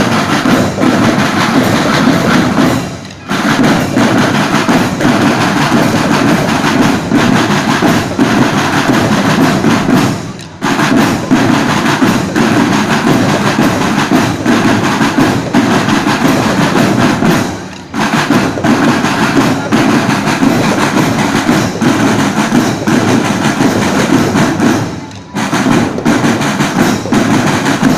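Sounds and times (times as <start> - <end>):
marching drums playing: 0.0 - 27.9.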